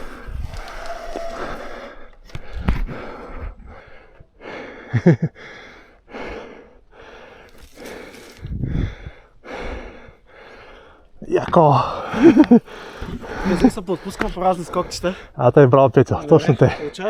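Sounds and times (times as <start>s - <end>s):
person breathing hard: 0.0s - 11.1s, 11.8s - 15.4s.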